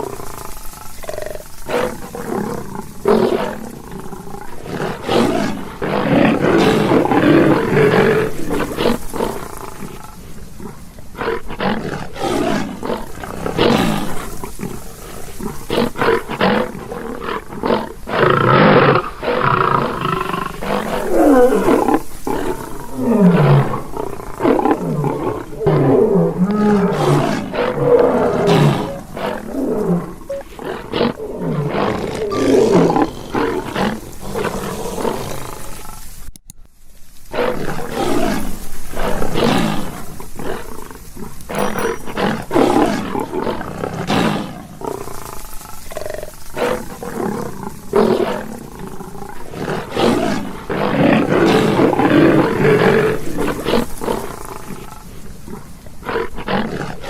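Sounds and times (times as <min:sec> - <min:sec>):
lion roaring and growling: 0:00.0 - 0:36.0, 0:37.4 - 0:57.0.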